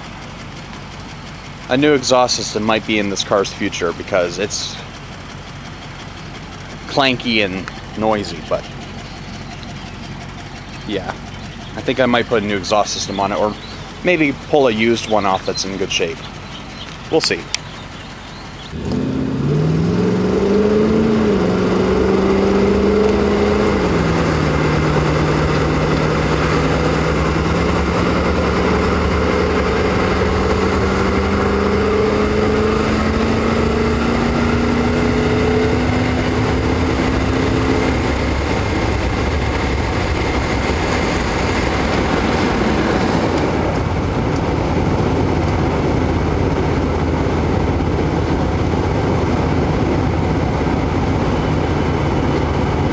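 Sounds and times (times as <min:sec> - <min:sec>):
car engine accelerating: 0:00.0 - 0:52.9
road noise: 0:00.0 - 0:52.9.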